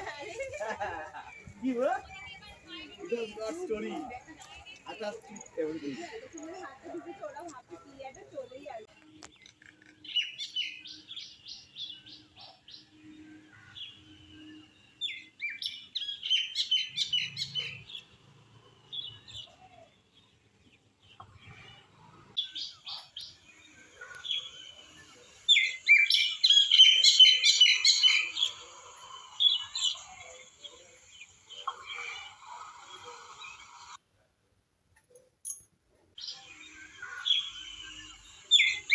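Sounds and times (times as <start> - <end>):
songbirds chirping trills: 0.0 - 34.0, 36.2 - 38.9.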